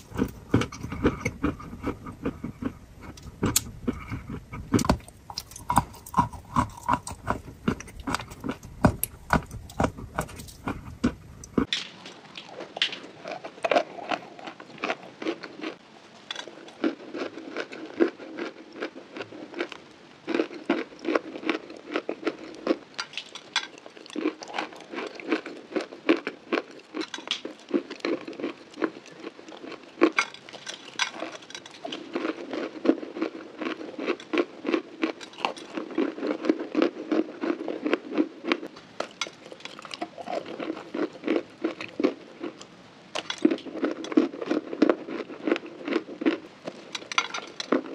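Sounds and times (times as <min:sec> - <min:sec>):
person chewing crunchy chalk: 0:00.0 - 0:11.7, 0:12.3 - 0:47.9.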